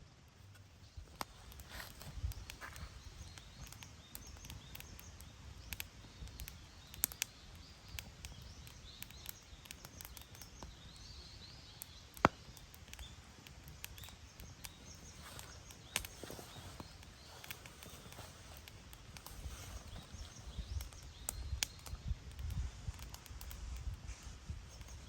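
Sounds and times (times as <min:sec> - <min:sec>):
low fire rumble: 0:00.0 - 0:25.0
campfire pops and snaps: 0:00.5 - 0:25.0.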